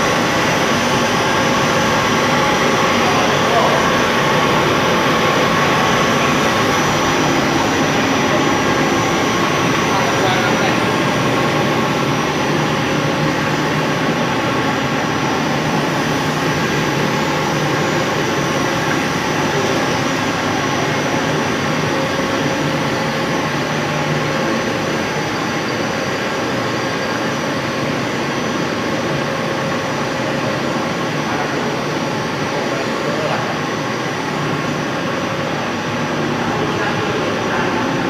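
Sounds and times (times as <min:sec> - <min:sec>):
extrusion machine humming: 0:00.0 - 0:38.0.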